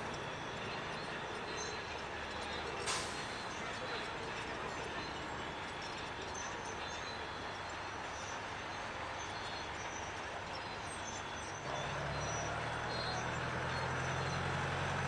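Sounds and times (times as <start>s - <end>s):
large vehicle engine idling: 0.0s - 15.0s.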